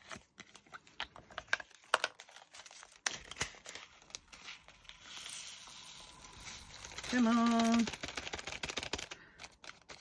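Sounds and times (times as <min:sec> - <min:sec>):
plastic bag crinkling: 0:02.0 - 0:10.0.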